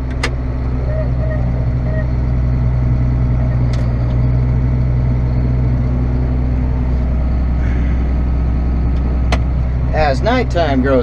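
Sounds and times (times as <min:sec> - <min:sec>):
tractor diesel engine humming: 0:00.0 - 0:11.0.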